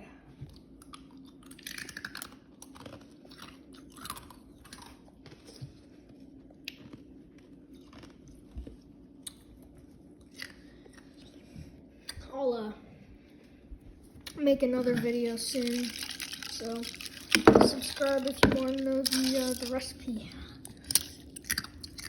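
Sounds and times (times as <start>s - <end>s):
chewing and wet mouth sounds: 0.4s - 12.3s, 13.1s - 22.0s.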